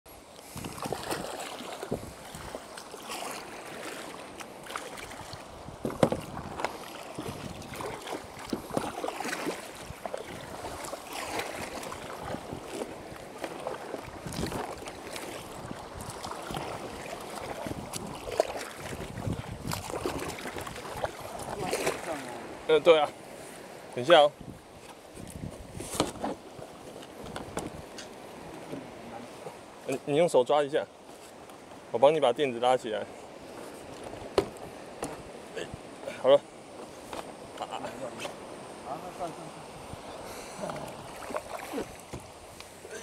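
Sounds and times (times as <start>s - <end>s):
steady wash of water: 0.1s - 43.0s
paddles splashing in water: 0.2s - 31.9s, 33.1s - 43.0s.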